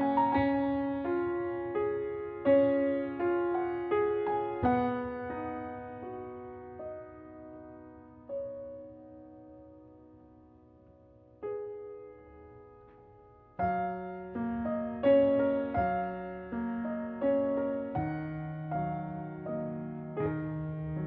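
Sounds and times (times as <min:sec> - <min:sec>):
gentle solo piano music: 0:00.0 - 0:21.0.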